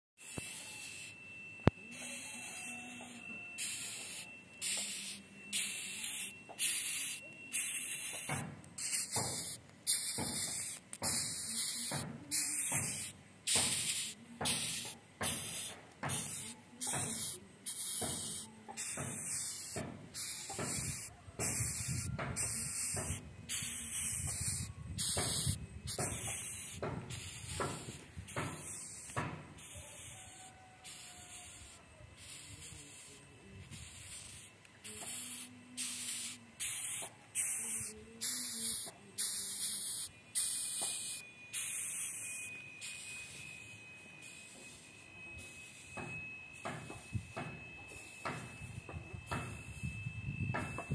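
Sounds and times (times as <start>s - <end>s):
beetle stridulating hisses: 0.2s - 43.6s.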